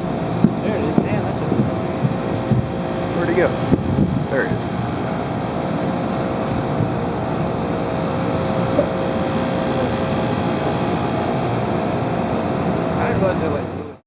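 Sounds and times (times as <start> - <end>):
turboprop engines droning overhead: 0.0 - 14.0.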